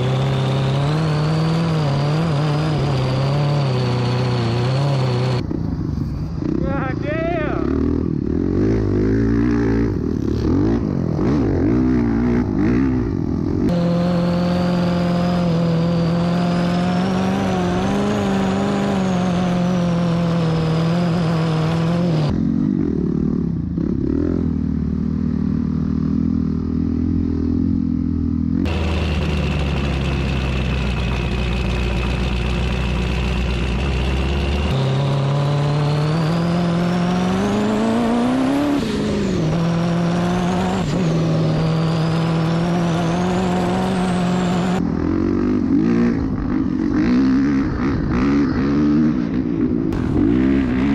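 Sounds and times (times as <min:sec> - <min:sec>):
dirt bike engine revving: 0:00.0 - 0:05.5, 0:06.4 - 0:50.9.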